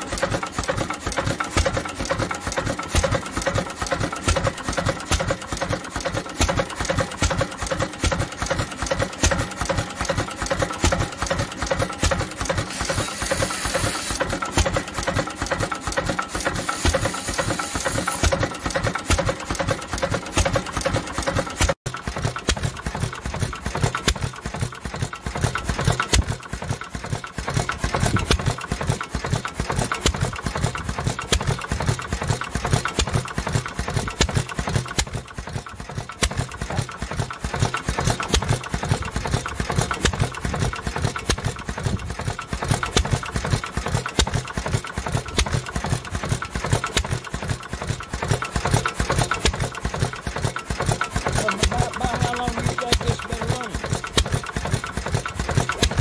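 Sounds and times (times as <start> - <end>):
hit-and-miss engine clattering: 0.0 - 56.0.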